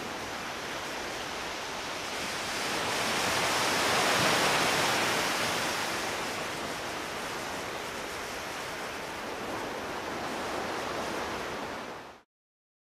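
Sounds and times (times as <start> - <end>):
ocean surf breaking: 0.0 - 12.2.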